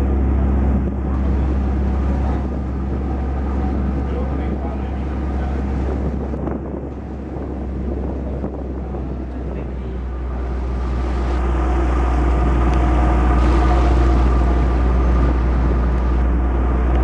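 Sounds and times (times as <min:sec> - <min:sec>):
ferry engine rumbling: 0:00.0 - 0:17.0
water churning: 0:00.0 - 0:17.0
wind buffeting microphone: 0:00.0 - 0:17.0.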